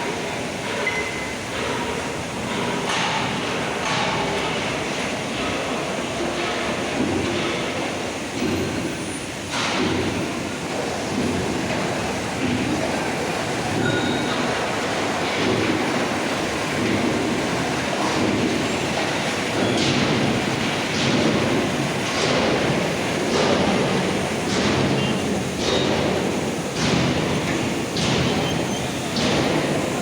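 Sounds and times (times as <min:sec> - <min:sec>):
railway wagon rumbling on track: 0:00.0 - 0:30.0.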